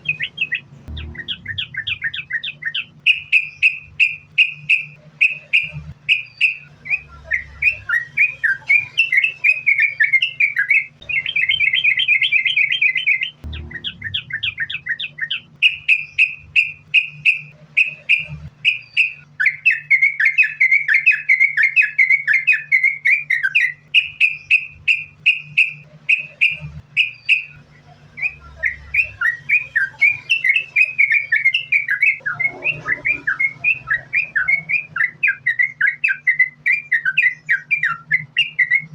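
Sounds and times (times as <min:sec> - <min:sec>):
bird singing with fast trills: 0:00.0 - 0:38.9
faint low hum: 0:00.0 - 0:38.9.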